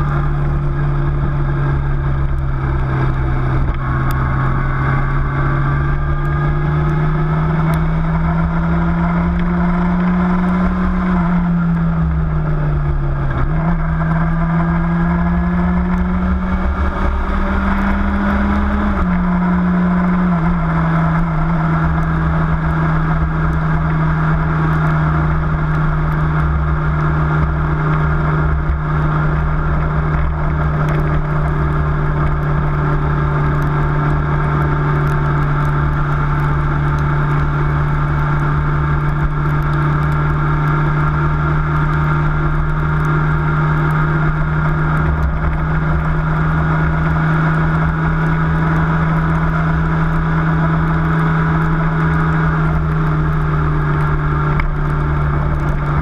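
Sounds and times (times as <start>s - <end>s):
vehicle engine running: 0.0s - 56.0s
wind and road noise rumble: 0.0s - 56.0s.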